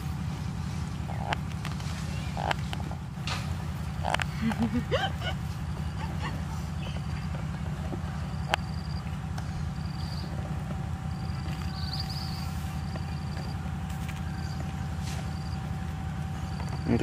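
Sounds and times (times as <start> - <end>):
insects chirping trills: 0.0 - 17.0
steady low drone: 0.0 - 17.0.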